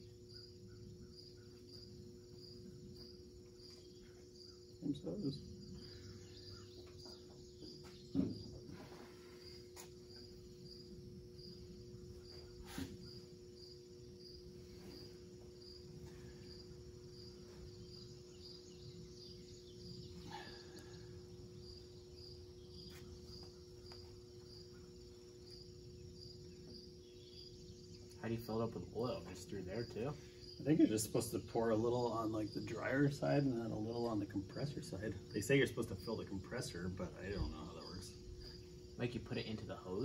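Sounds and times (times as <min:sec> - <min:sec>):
cricket chirping: 0:00.0 - 0:40.0
steady low hum: 0:00.0 - 0:40.0.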